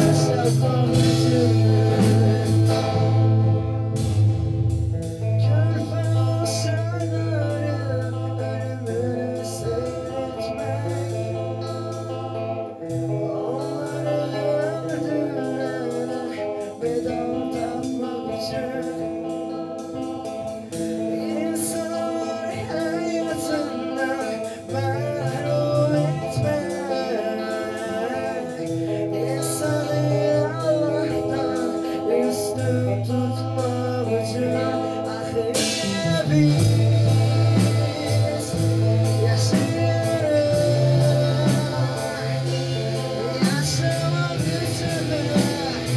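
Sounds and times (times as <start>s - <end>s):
person singing lead vocal: 0.0s - 45.9s
rock band playing: 0.0s - 45.9s.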